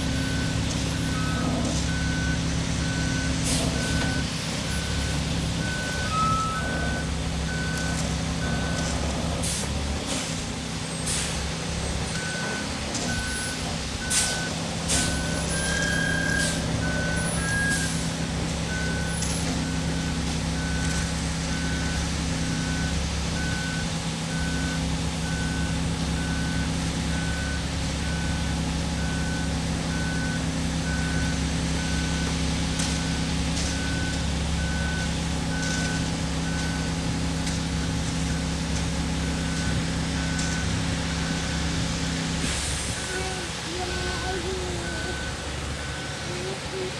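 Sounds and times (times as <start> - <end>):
truck engine running: 0.0 - 46.9
reversing alarm beeping: 0.1 - 9.0, 12.1 - 18.1, 18.7 - 37.1, 37.7 - 41.8, 42.8 - 46.9.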